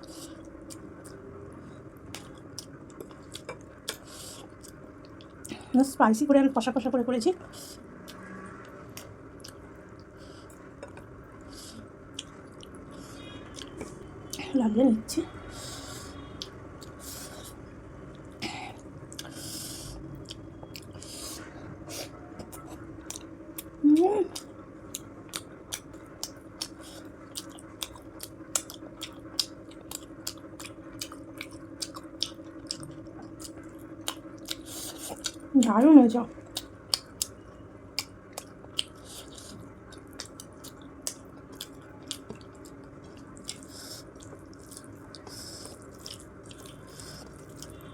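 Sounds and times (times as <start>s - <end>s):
person chewing food: 0.0s - 5.7s, 7.4s - 14.6s, 15.4s - 47.9s
steady low hum: 0.0s - 47.9s.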